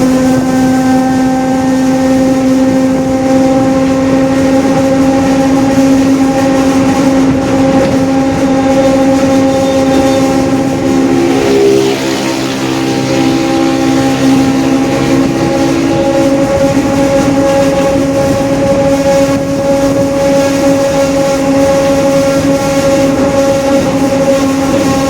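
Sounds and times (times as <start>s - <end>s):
bus differential whine: 0.0s - 25.0s
bus engine: 0.0s - 25.0s.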